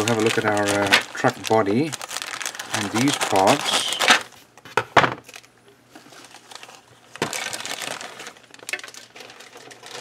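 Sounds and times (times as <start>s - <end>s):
plastic bag crinkling: 0.0s - 4.4s, 5.2s - 10.0s.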